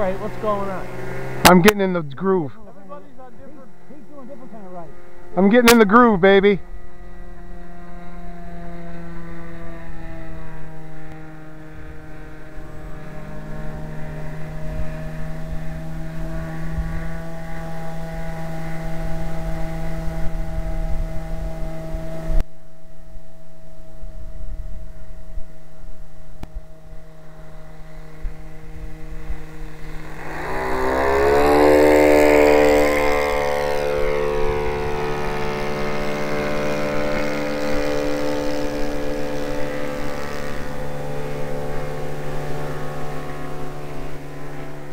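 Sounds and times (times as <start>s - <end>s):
model airplane engine running: 0.0s - 44.9s
model plane passing close: 0.0s - 44.9s.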